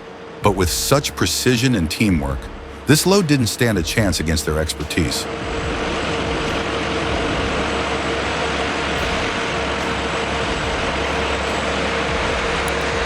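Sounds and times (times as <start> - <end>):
heavy trucks engine rumble: 0.0 - 13.0
mid-pitched whine: 0.0 - 13.0.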